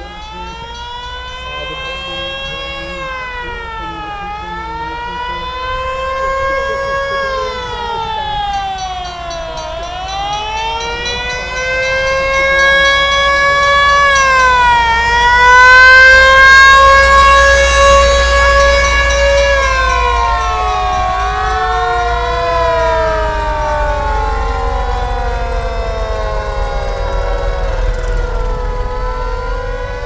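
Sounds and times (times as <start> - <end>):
siren wailing: 0.0 - 30.0.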